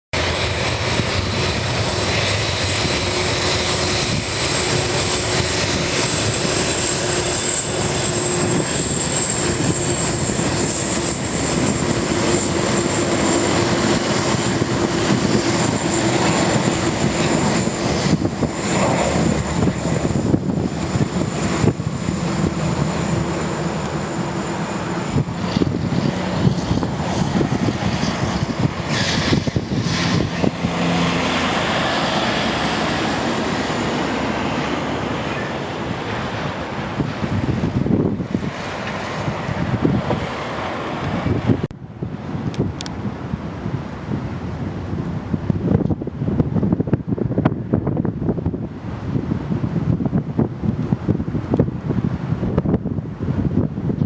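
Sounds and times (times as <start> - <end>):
jet engine roar and whine: 0.1 - 54.0.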